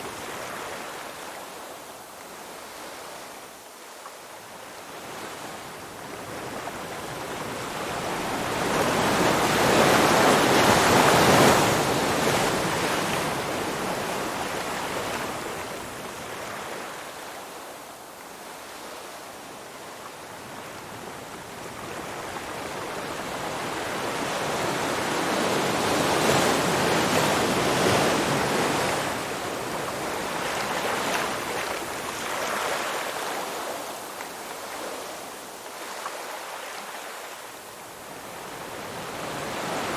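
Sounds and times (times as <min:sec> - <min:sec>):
surf waves washing in: 0:04.4 - 0:39.9.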